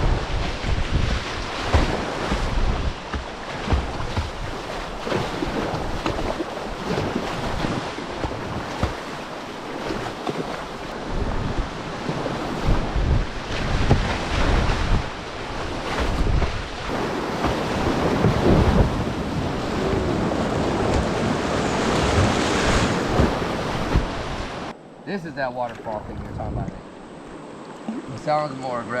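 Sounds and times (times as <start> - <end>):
wind buffeting microphone: 0.0 - 9.1, 10.8 - 24.7, 25.8 - 27.6
river water rushing and splashing: 0.0 - 29.0.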